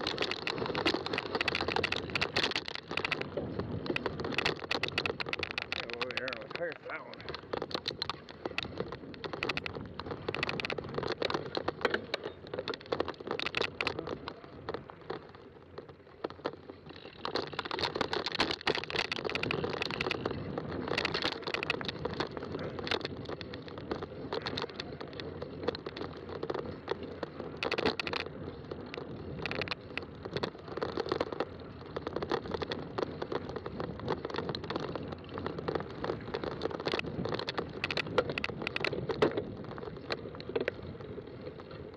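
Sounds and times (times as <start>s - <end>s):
bicycle tyres rolling on trail: 0.0s - 41.9s
sharp clicks and crackles: 0.0s - 41.9s.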